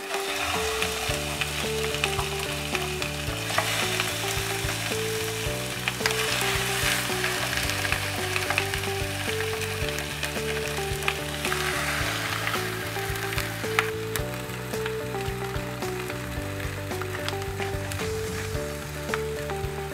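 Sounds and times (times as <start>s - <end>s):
background music with bass line: 0.0s - 19.9s
oil sizzling in frying pan: 0.0s - 19.9s.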